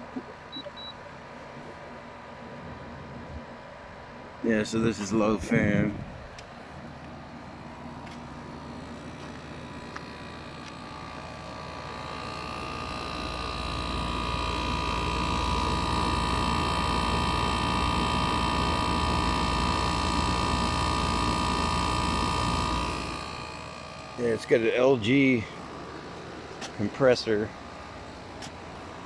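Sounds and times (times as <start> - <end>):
air conditioner humming and whining: 0.0 - 29.0.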